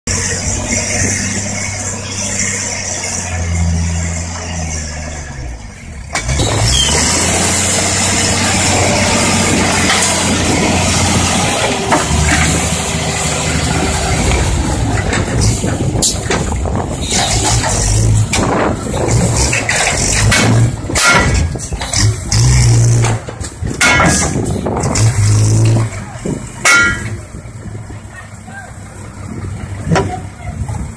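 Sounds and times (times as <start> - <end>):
heavy diesel engine running: 0.1 - 30.9.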